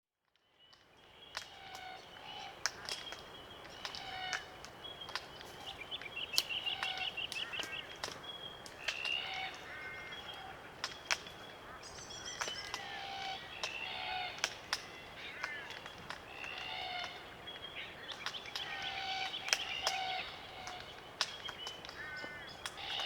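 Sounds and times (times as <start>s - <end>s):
birds cracking cones: 0.6s - 23.0s
creaking bird calls: 1.3s - 23.0s.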